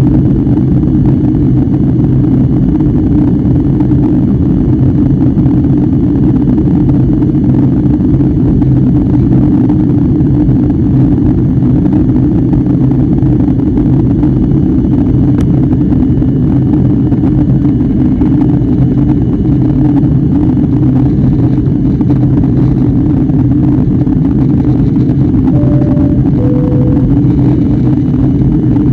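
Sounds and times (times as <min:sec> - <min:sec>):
constant low hum: 0:00.0 - 0:28.9
jet engines rumbling in cabin: 0:00.0 - 0:28.9.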